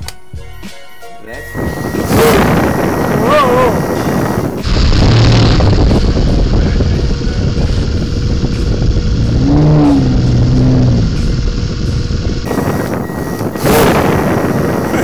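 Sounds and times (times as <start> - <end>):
fan boat motor humming: 0.6 - 15.0
air rushing over microphone: 1.6 - 15.0.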